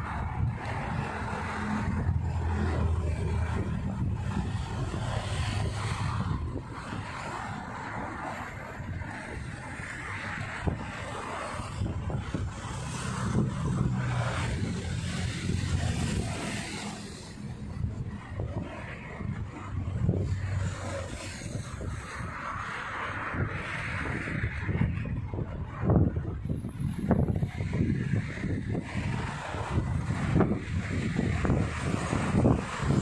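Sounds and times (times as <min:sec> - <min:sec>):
traffic passing: 0:00.0 - 0:33.0
wind noise on microphone: 0:00.0 - 0:33.0.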